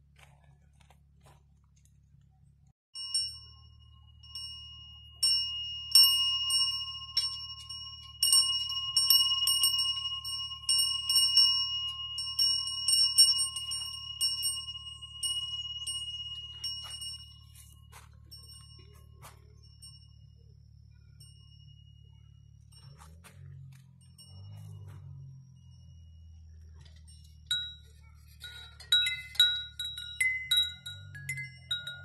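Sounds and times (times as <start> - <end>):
metal wind chime ringing: 3.0 - 32.0.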